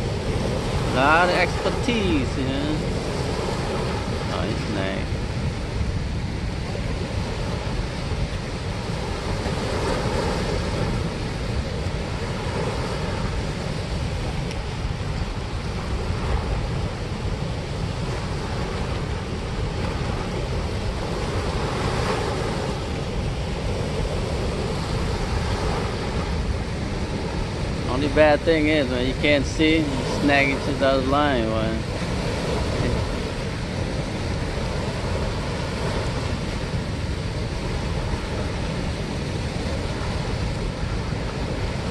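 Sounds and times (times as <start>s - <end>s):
water roaring over dam spillway: 0.0s - 41.9s.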